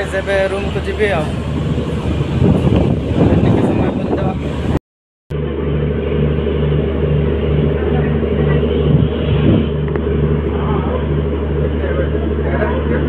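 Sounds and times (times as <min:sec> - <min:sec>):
low train rumble with throb: 0:00.0 - 0:13.0.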